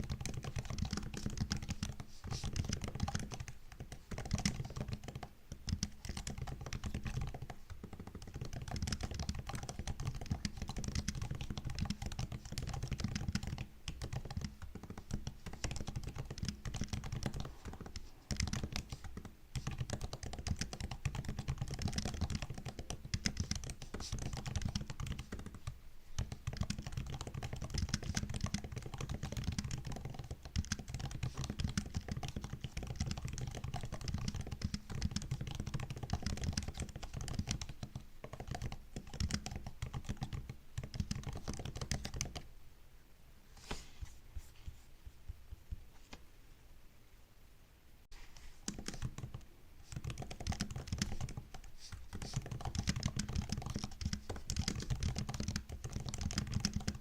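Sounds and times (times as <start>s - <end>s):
laptop keyboard typing: 0.0s - 42.5s, 48.4s - 57.0s.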